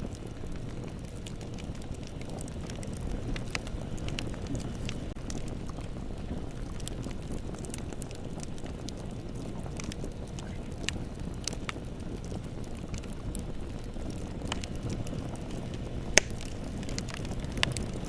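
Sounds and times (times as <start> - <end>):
bonfire flames rushing: 0.0 - 18.0
fire crackling and popping: 0.0 - 18.0.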